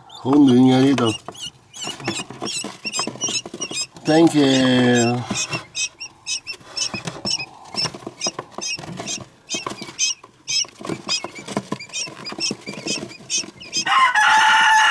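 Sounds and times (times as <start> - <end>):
quail chicks peeping: 0.0 - 14.9.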